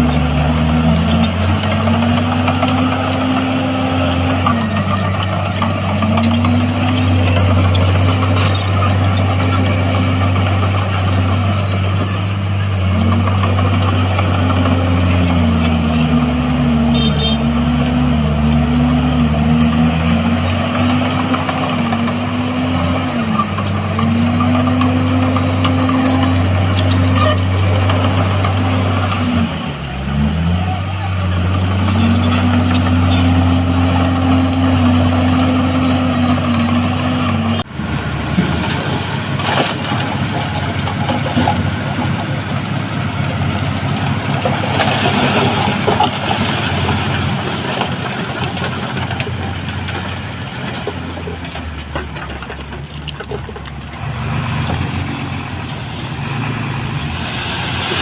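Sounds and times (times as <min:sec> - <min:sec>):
heavy diesel engine under load: 0:00.0 - 0:58.0
rough noisy engine: 0:00.0 - 0:58.0.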